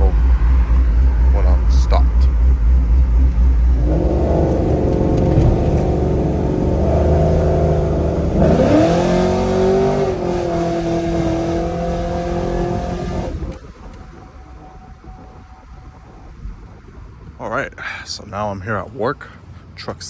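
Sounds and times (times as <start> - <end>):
truck engine accelerating and shifting: 0.0 - 17.2.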